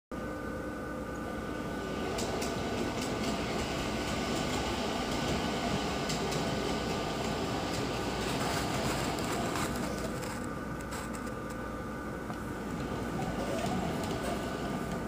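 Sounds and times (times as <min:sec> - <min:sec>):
model locomotive whirring: 0:01.6 - 0:11.5, 0:12.6 - 0:15.0.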